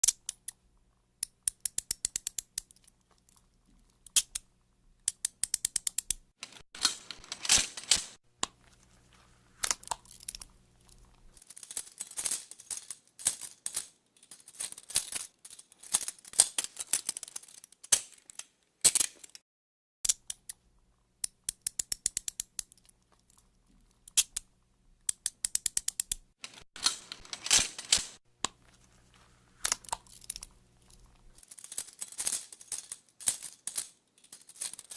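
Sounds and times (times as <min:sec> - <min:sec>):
handcuffs ratcheting clicks: 0:00.0 - 0:00.6, 0:01.2 - 0:08.1, 0:09.6 - 0:19.4, 0:20.0 - 0:20.6, 0:21.2 - 0:24.5, 0:25.1 - 0:28.6, 0:29.6 - 0:34.9.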